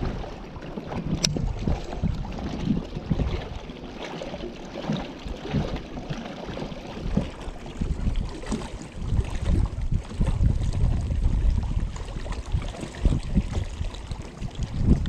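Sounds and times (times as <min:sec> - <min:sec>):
wind buffeting microphone: 0:00.0 - 0:03.8, 0:06.6 - 0:15.0
choppy water lapping against boat: 0:00.0 - 0:15.0.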